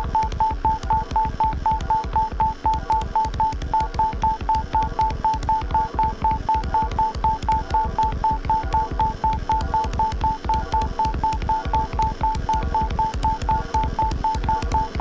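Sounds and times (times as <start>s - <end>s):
sharp electronic clicks: 0.0s - 15.0s.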